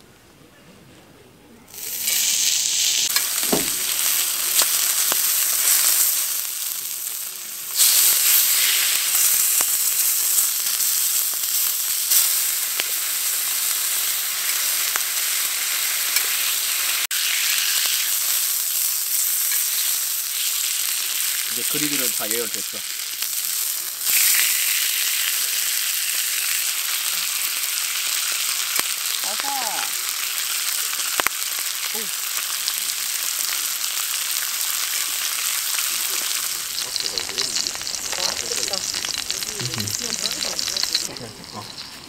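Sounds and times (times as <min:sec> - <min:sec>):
food sizzling on grill: 0:01.7 - 0:42.0.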